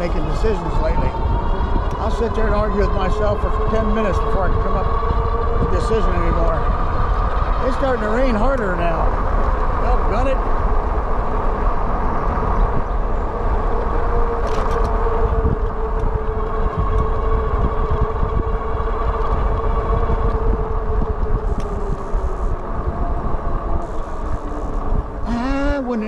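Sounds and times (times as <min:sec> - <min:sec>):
electric motor whining: 0:00.0 - 0:25.6
wind rumble on microphone: 0:00.0 - 0:26.0.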